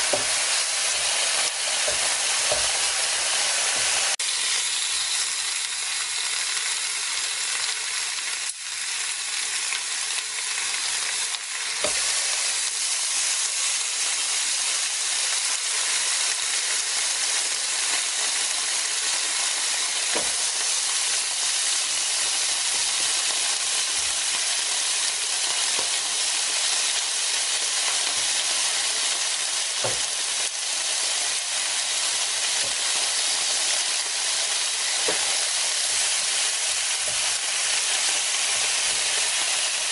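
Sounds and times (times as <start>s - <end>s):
meat sizzling on a grill plate: 0.0s - 39.9s.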